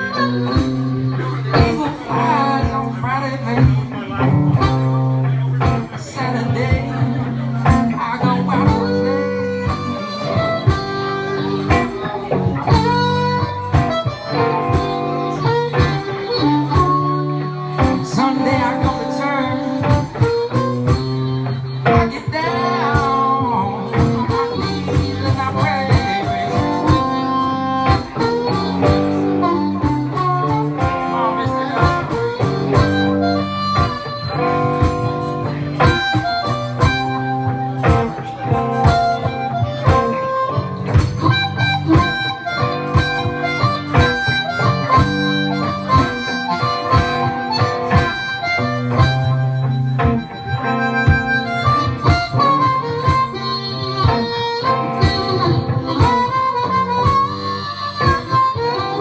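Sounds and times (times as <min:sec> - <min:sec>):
electric guitar blues: 0:00.0 - 0:59.0
harmonica lead with bent notes: 0:00.0 - 0:59.0.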